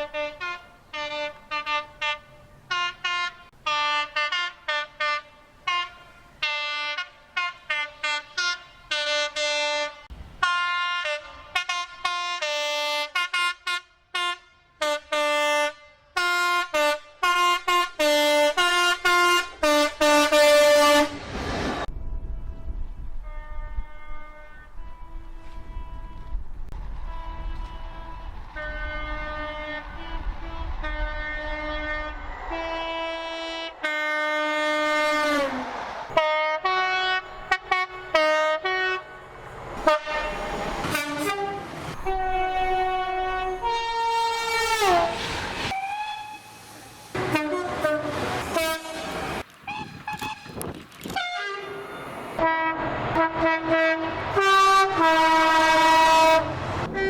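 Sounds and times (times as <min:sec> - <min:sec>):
train horn blasts: 0:00.0 - 0:21.3, 0:21.9 - 0:46.6, 0:47.2 - 0:57.0.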